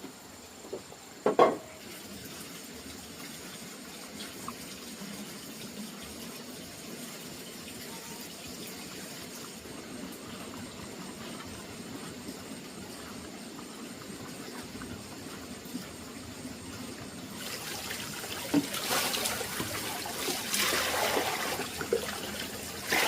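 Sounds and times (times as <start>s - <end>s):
water running: 1.6s - 23.0s.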